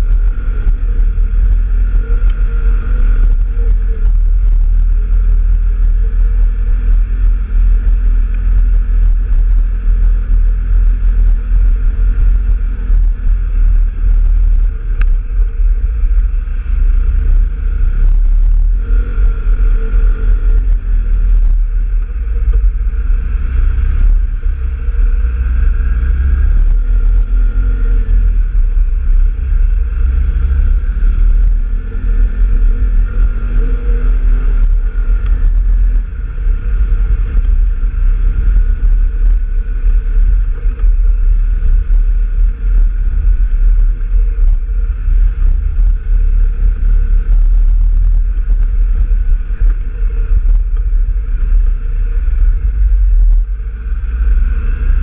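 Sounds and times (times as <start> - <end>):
off-road vehicle engine: 0.0 - 55.0
wind rumble on microphone: 0.0 - 55.0.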